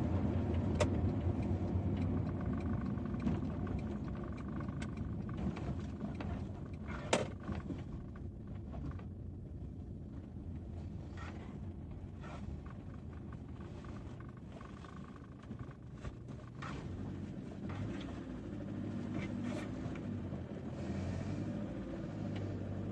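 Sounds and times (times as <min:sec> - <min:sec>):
car engine and tyres rumbling: 0:00.0 - 0:22.9.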